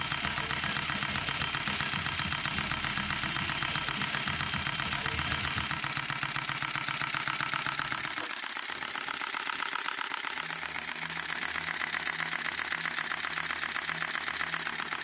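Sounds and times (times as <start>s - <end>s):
camera shutter burst: 0.2s - 15.0s.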